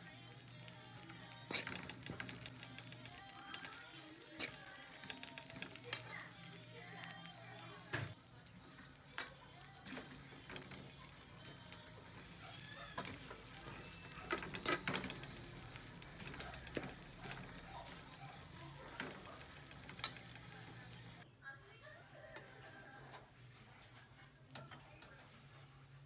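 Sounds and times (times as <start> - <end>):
rice sizzling in a wok: 0.0 - 21.2.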